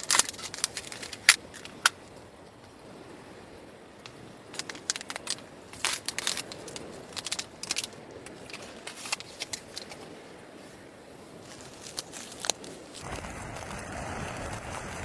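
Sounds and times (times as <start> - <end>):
sharp clicks and crackles: 0.0 - 2.8, 4.0 - 10.0, 11.5 - 15.0
faint steady hiss: 0.0 - 15.0.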